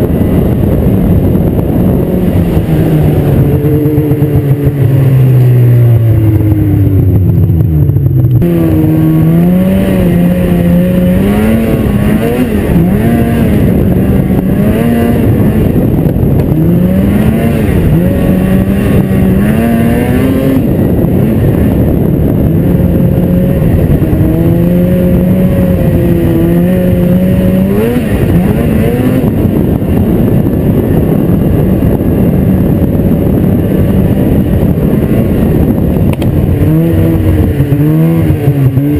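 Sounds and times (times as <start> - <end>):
constant rushing noise: 0.0 - 38.9
snowmobile engine running: 0.0 - 38.9.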